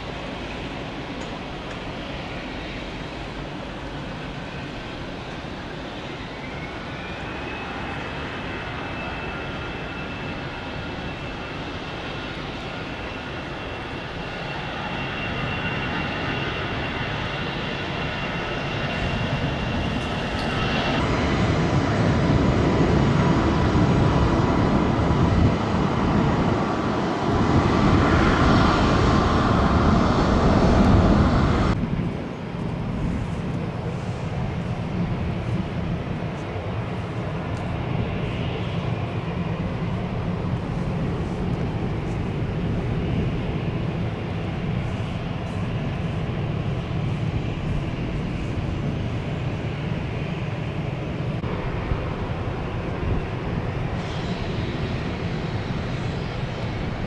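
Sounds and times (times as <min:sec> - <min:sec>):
aircraft rumble: 0:00.0 - 0:57.0
jet engine whine: 0:00.0 - 0:57.0.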